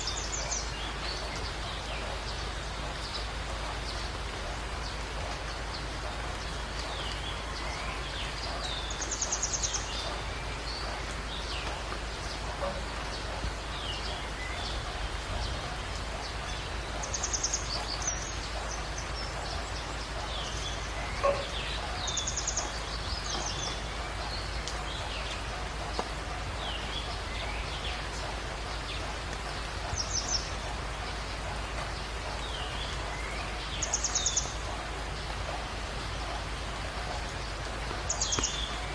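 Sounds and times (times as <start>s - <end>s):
jungle birds calling: 0.0s - 38.9s
rain-like hiss: 0.0s - 38.9s.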